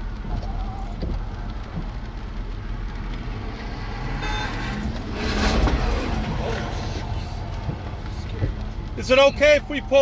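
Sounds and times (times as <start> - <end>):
vehicle engine idling: 0.0 - 10.0
wind and rain hiss: 0.0 - 10.0.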